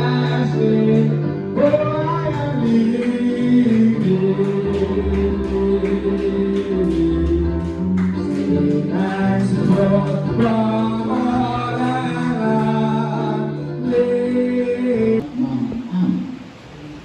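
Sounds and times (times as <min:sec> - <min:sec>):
instrumental accompaniment with beat: 0:00.0 - 0:14.8
gospel singing: 0:00.0 - 0:15.4.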